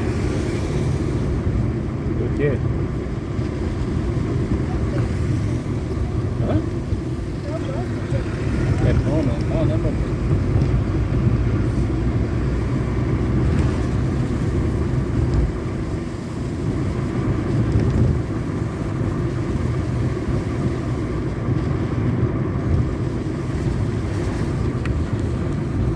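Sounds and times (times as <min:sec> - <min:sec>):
ride noise: 0:00.0 - 0:25.9
vehicle low rumble: 0:00.0 - 0:25.9.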